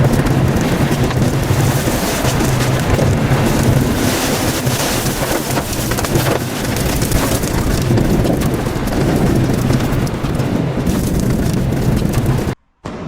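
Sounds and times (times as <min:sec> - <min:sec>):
falling rain: 0:00.0 - 0:12.6
wind buffeting microphone: 0:00.0 - 0:13.0.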